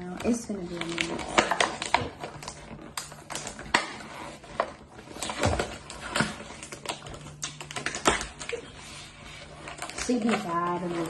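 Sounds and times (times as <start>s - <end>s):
plastic packaging tearing and crinkling: 0.0s - 11.0s.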